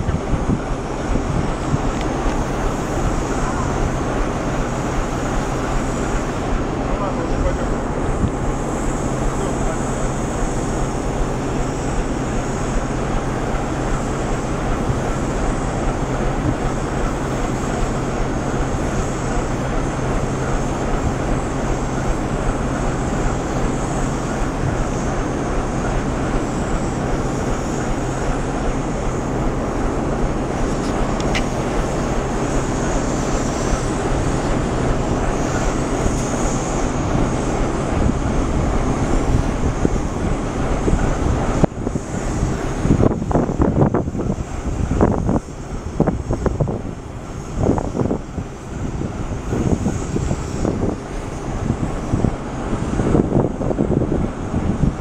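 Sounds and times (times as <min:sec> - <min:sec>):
train ventilation fans low hum: 0:00.0 - 0:55.0
high hiss: 0:00.4 - 0:54.9.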